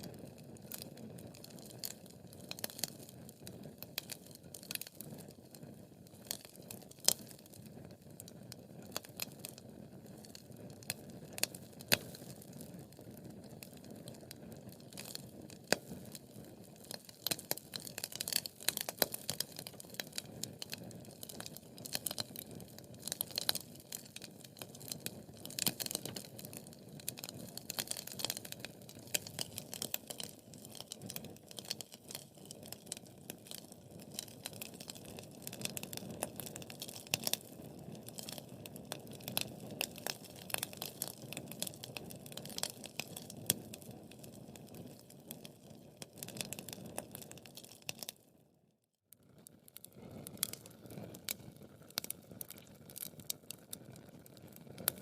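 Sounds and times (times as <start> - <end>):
wood fire crackling: 0.0 - 48.3, 49.1 - 55.0.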